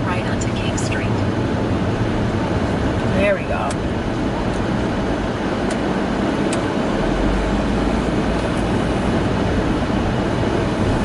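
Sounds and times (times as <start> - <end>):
car road and engine noise: 0.0 - 11.0
low rumble: 0.0 - 11.0.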